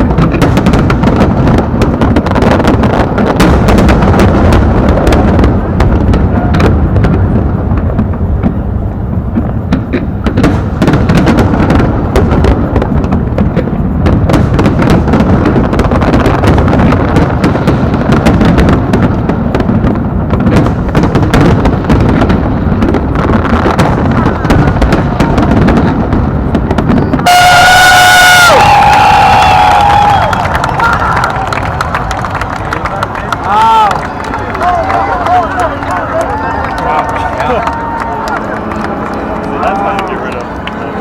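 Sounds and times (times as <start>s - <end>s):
fireworks booms and cracks: 0.0s - 41.0s.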